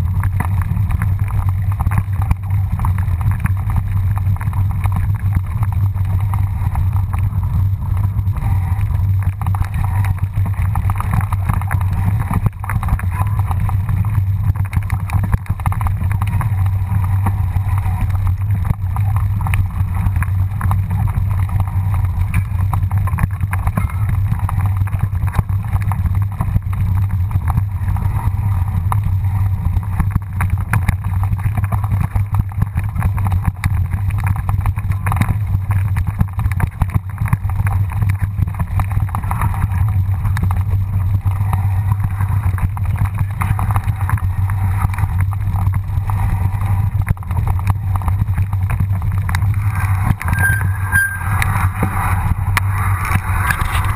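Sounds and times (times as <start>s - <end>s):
bike rattles and knocks: 0.0s - 53.9s
wind rumble on microphone: 0.0s - 53.9s.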